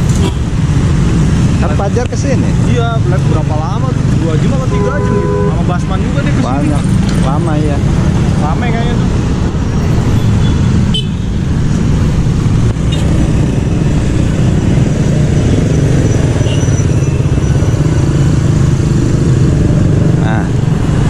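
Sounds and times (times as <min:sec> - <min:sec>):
car engines running: 0:00.0 - 0:21.0
motorcycle engines running: 0:00.0 - 0:21.0.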